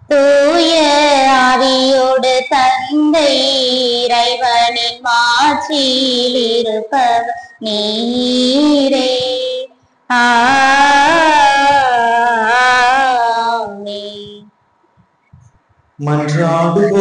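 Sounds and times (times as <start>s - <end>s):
hymn singing with vibrato: 0.0s - 14.5s, 15.4s - 17.0s.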